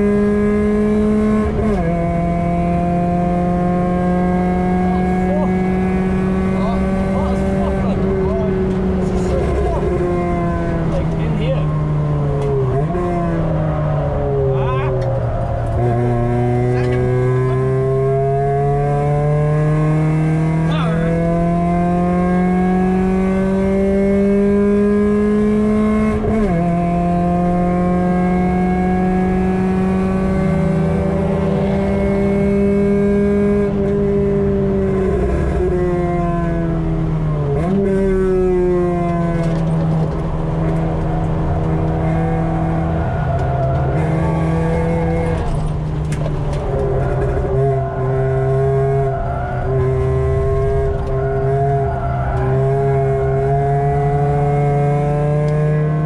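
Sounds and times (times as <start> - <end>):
car engine revving under load: 0.0 - 56.0.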